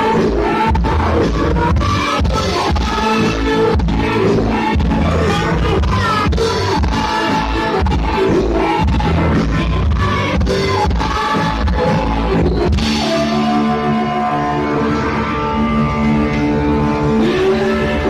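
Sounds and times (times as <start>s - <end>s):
drum kit: 0.0s - 18.0s
electric guitars: 0.0s - 18.0s.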